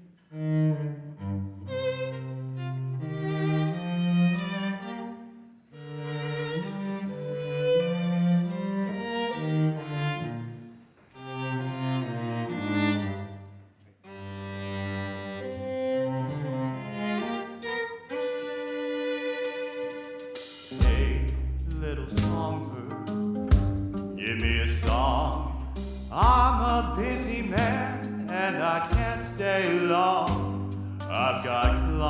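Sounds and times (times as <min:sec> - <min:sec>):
low bowed-string melody: 0:00.0 - 0:32.0.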